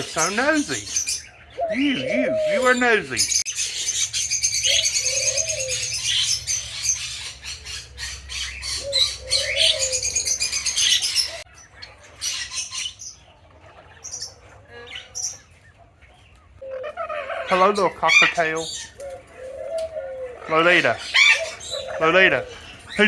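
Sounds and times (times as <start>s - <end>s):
dove cooing: 0.0s - 23.0s
lovebirds chirping: 0.0s - 23.0s.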